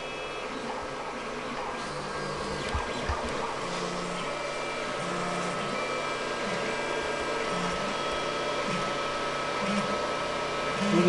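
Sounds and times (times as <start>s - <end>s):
cooling fan whirring: 0.0s - 11.0s
stepper motors singing: 1.9s - 11.0s.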